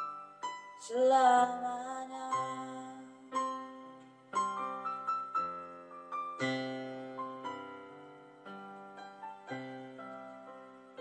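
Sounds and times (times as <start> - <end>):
slow piano playing: 0.0 - 11.0.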